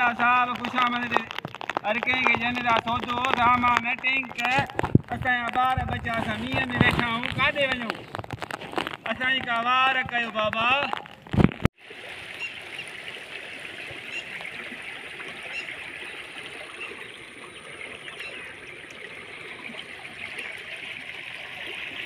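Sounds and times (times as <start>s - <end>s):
water running over gravel: 0.0s - 22.0s.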